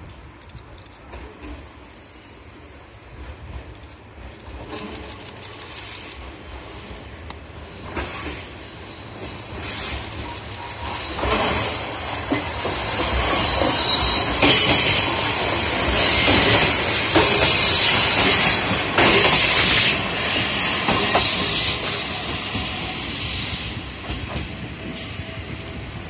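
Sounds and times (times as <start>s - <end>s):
diesel railcars passing: 0.0s - 26.0s.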